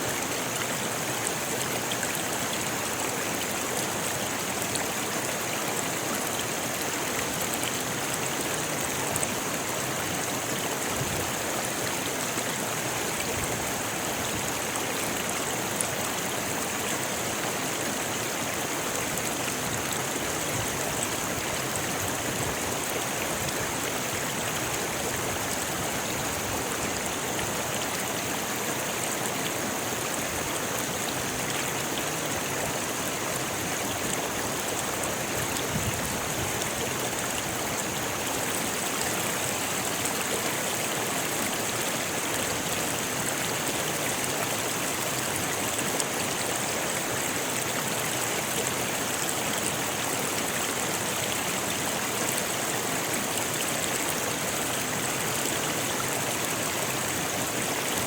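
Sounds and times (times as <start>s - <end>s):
river rushing over stones: 0.0s - 58.0s.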